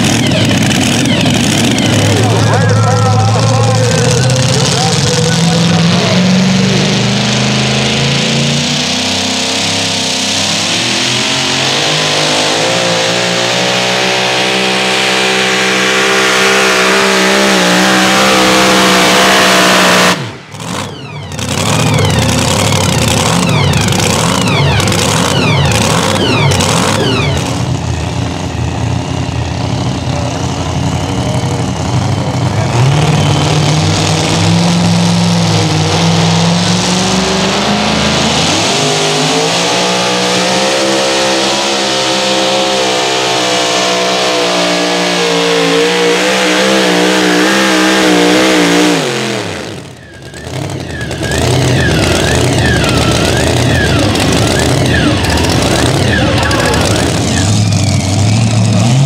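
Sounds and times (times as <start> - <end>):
supercharged truck engine at full throttle: 0.0 - 59.0.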